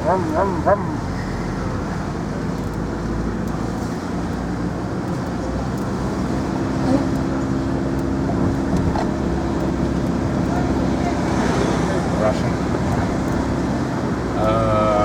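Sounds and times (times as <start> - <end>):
car engine hum: 0.0 - 15.0
road noise inside car: 0.0 - 15.0
steady engine tone: 0.0 - 15.0.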